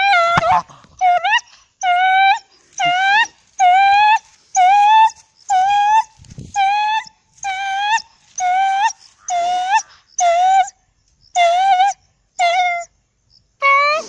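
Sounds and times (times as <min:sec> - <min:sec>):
dog whining: 0:00.0 - 0:10.7, 0:11.4 - 0:12.9, 0:13.6 - 0:14.0.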